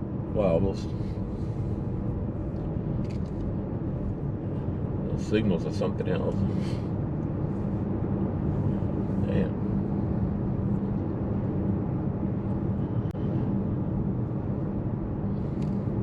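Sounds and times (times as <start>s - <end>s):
car engine hum: 0.0s - 16.0s
low road rumble: 0.0s - 16.0s.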